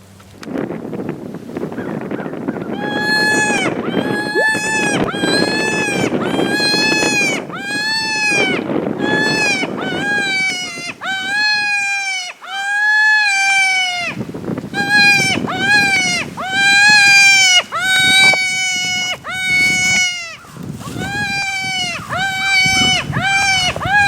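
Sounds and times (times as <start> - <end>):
low wind rumble: 0.0 - 12.2, 12.8 - 24.0
predator call high wailing cries: 2.7 - 14.2, 14.8 - 24.0.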